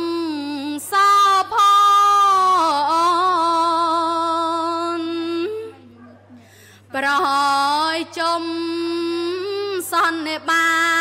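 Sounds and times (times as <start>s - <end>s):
woman chanting: 0.0s - 11.0s.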